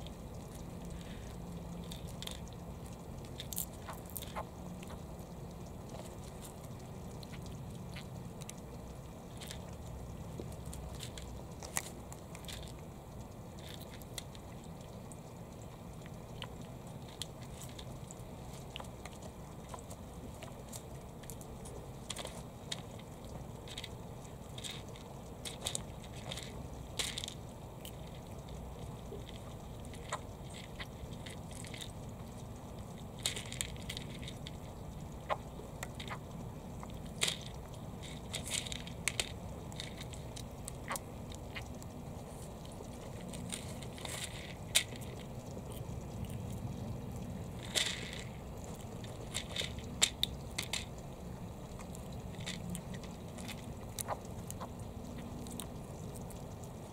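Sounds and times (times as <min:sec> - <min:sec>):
turtles crunching food: 0:00.0 - 0:56.9.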